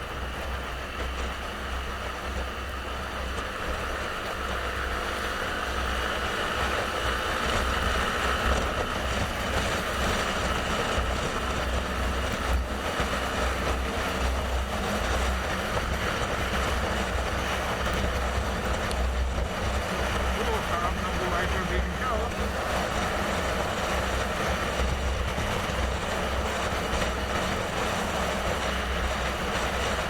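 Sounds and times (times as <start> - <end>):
motorcycle road noise: 0.0 - 30.0.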